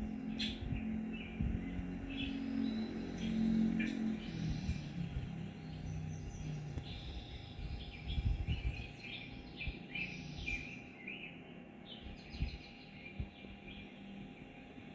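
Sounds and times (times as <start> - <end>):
low rumbling background: 0.0 - 14.9.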